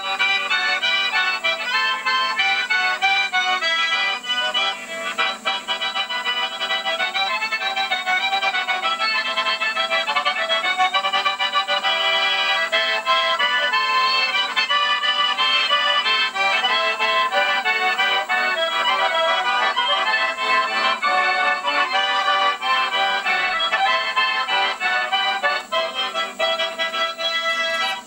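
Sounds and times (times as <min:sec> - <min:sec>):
button accordion fast tune: 0:00.0 - 0:28.0.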